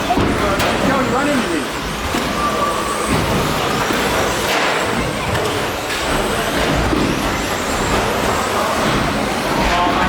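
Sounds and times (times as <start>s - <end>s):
rc trucks racing: 0.0s - 10.0s.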